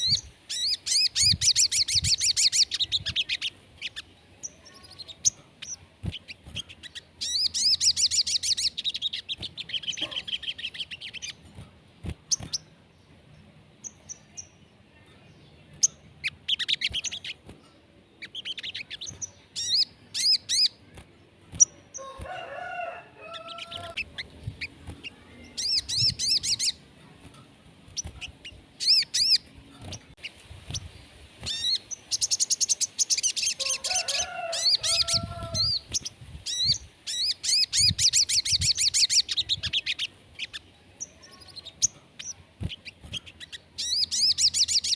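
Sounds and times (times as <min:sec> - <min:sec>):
bird high trilled song: 0:00.0 - 0:11.6, 0:13.8 - 0:17.5, 0:18.2 - 0:20.8, 0:23.3 - 0:44.9.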